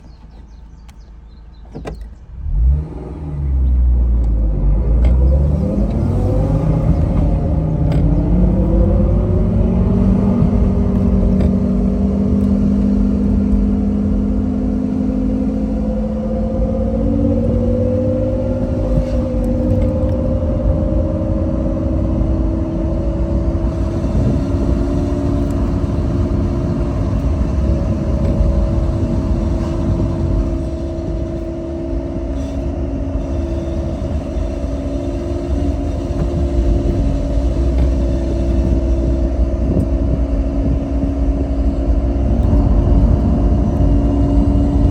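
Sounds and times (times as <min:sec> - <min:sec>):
car engine: 0:00.0 - 0:44.9
road rumble: 0:00.0 - 0:44.9
driveline whine: 0:04.2 - 0:44.9.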